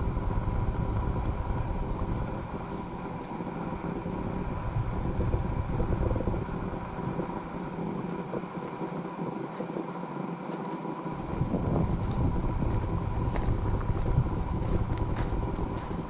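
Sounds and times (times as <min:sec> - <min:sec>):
wind buffeting microphone: 0:00.0 - 0:09.0, 0:11.1 - 0:16.0.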